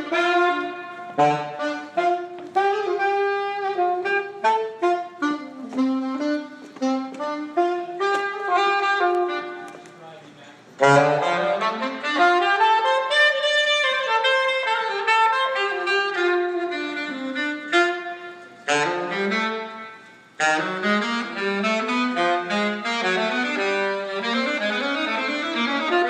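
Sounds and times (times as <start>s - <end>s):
saxophone jazz solo: 0.0s - 26.0s.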